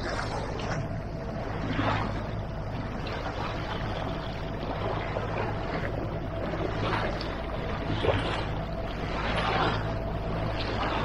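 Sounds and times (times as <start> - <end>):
outboard engine hum: 0.0 - 11.0
water splashing along hull: 0.0 - 11.0.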